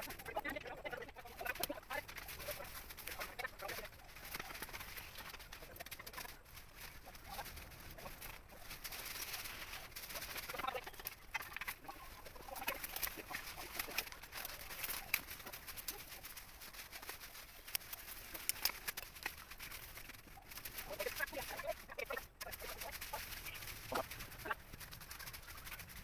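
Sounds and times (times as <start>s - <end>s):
birds calling: 0.0s - 26.0s
small clicks: 1.2s - 26.0s.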